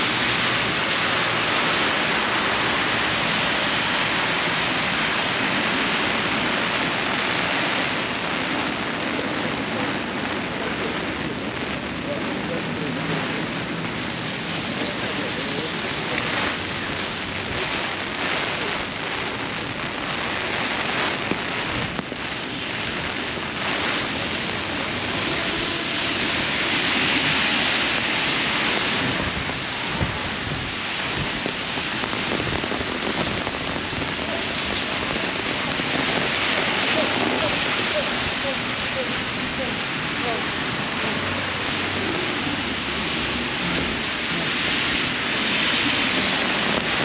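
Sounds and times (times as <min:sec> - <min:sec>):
heavy rain on an umbrella: 0:00.0 - 0:47.0.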